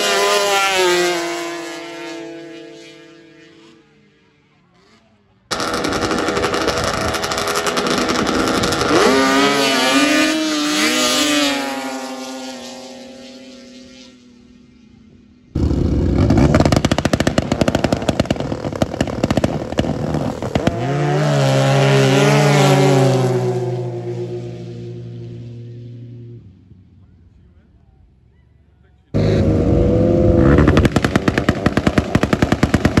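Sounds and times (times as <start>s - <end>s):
snowmobile engines at full throttle: 0.0s - 3.8s, 5.5s - 14.8s, 15.5s - 25.5s, 29.2s - 33.0s.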